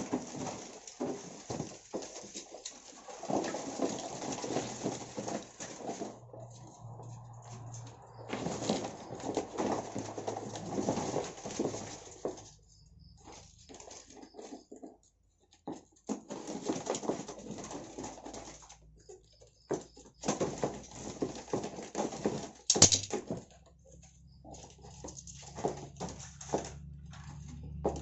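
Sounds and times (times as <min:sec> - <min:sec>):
birds rustling and scrabbling: 0:00.0 - 0:28.0.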